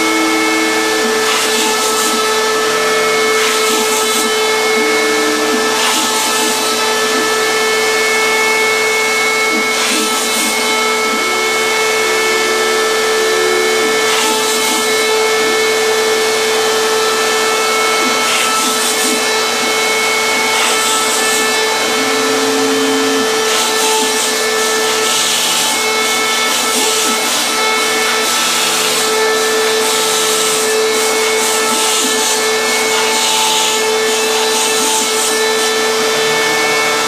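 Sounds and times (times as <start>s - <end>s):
spindle whine: 0.0s - 37.0s
stepper motor tones: 0.0s - 37.0s.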